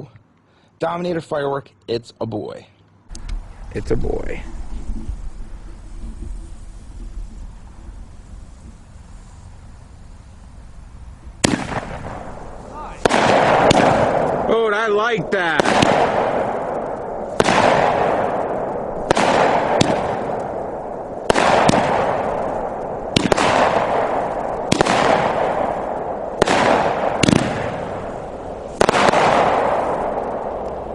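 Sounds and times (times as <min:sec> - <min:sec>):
rushing noise after fireworks: 0:03.1 - 0:30.9
fireworks firing sharp reports: 0:03.8 - 0:30.9.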